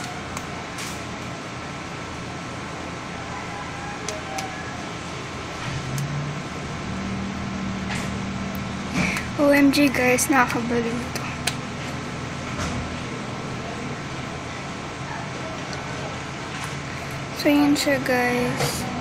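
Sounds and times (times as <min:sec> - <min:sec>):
low engine-like hum: 0:00.0 - 0:19.0
steady background noise: 0:00.0 - 0:19.0.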